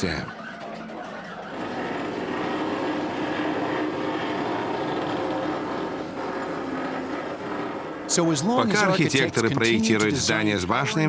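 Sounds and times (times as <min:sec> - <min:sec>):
drilling rig drone: 0:00.0 - 0:10.8.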